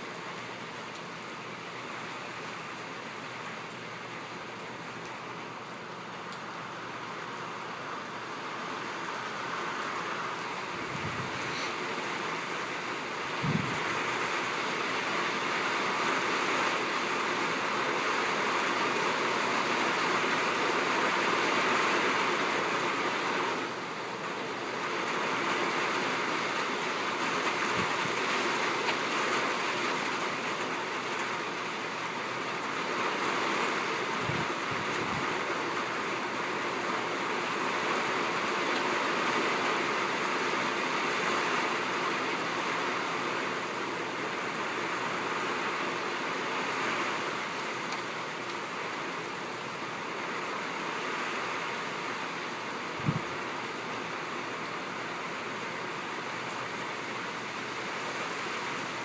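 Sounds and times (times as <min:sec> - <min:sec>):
heavy rain on a tin roof: 0:00.0 - 0:59.0.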